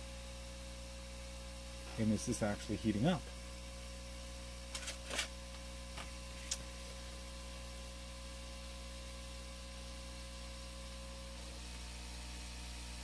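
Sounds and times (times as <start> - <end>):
fume extractor running: 0.0 - 13.0
rework station humming: 0.0 - 13.0.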